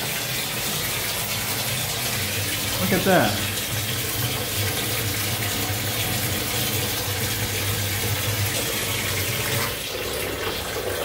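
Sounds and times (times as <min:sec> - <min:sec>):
water running into tub: 0:00.0 - 0:11.0.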